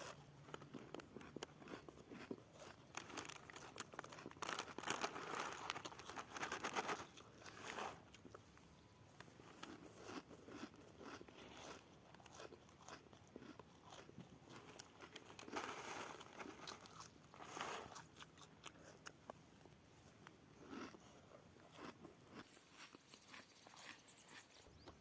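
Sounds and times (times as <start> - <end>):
crunching and rustling: 0.0 - 8.6, 9.2 - 25.0.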